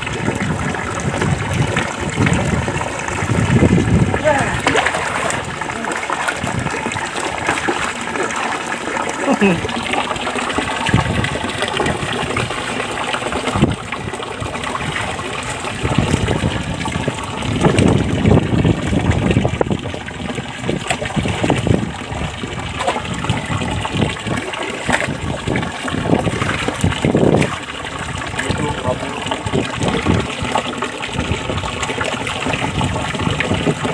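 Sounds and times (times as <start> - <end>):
splashes in shallow water: 0.0 - 17.2, 20.6 - 32.7
water rushing: 0.0 - 33.9.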